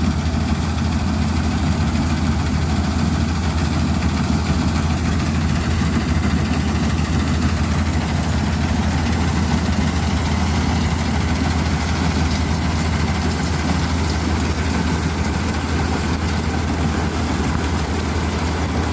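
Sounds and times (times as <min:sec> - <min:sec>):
combine harvester engine drone: 0:00.0 - 0:18.9.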